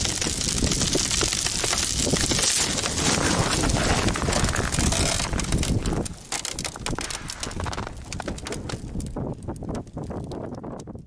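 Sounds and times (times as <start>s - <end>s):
ice crackling and crunching: 0.0s - 11.0s
wind rushing across microphone: 0.0s - 11.0s.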